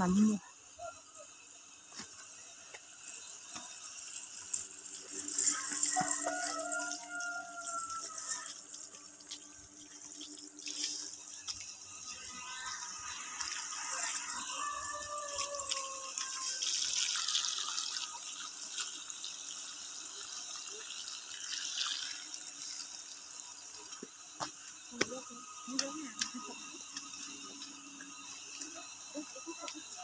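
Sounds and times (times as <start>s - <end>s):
water trickling: 0.1s - 30.0s.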